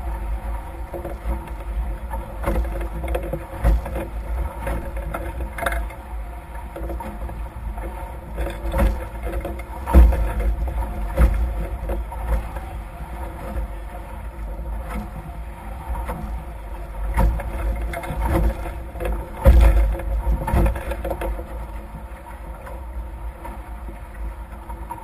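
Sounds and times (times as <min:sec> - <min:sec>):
hulls thumping on waves: 0:00.0 - 0:25.0
water rushing past hulls: 0:00.0 - 0:25.0.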